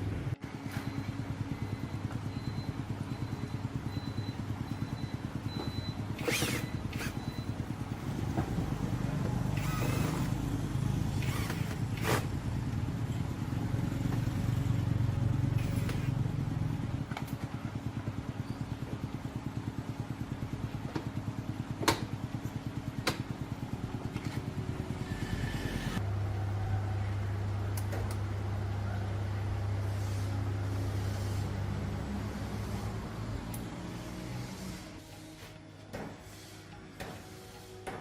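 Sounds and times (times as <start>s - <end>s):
motor humming and pulsing: 0.0s - 38.0s.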